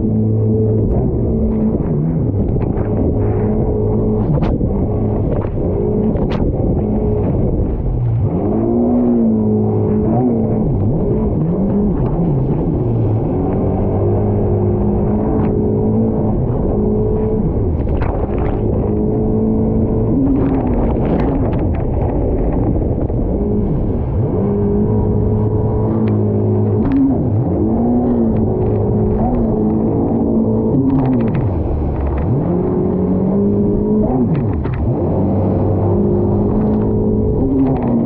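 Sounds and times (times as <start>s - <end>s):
jet ski engine running hard: 0.0s - 38.0s
water splashes: 0.0s - 38.0s.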